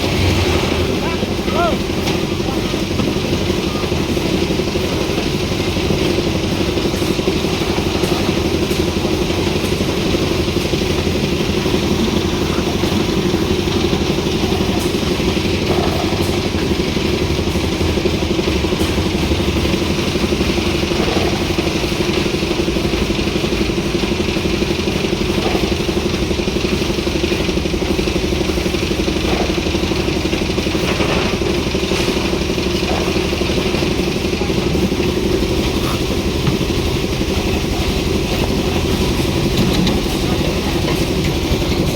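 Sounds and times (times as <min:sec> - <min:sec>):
machine engine running steadily: 0:00.0 - 0:41.9.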